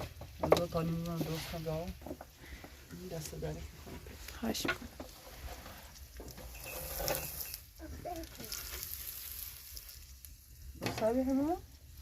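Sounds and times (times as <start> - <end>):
eggs sizzling in a pan: 0.0 - 12.0.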